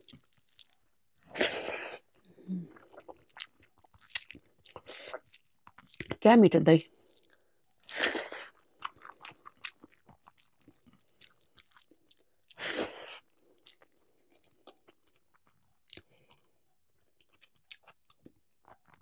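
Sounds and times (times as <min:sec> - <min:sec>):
close-up chewing: 0:00.0 - 0:06.2, 0:06.9 - 0:19.0.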